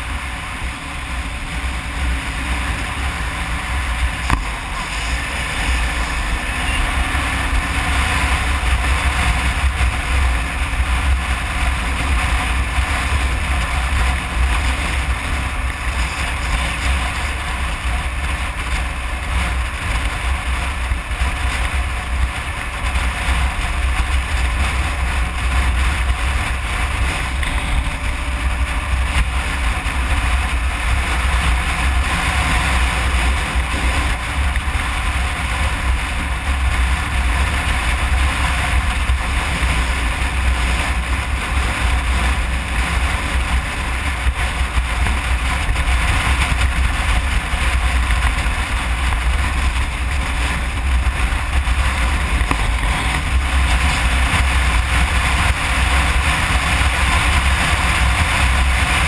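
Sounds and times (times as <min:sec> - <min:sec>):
motorcycle engine running: 0:00.0 - 0:59.0
wind on microphone: 0:00.0 - 0:59.0.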